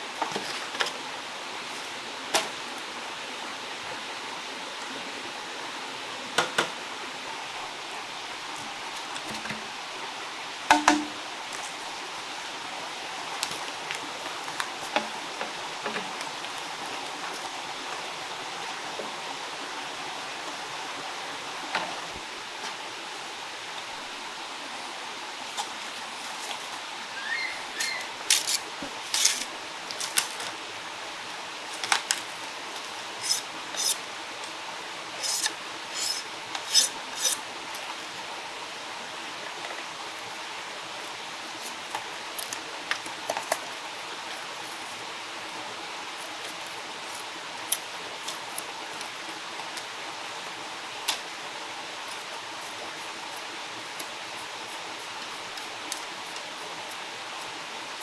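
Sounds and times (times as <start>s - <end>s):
running stream water: 0.0s - 58.0s.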